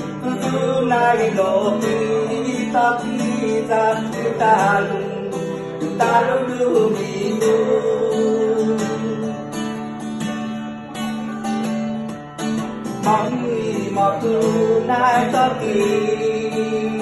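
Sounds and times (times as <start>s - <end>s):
person singing: 0.0s - 10.0s, 10.9s - 17.0s
acoustic guitar strummed and picked: 0.0s - 17.0s.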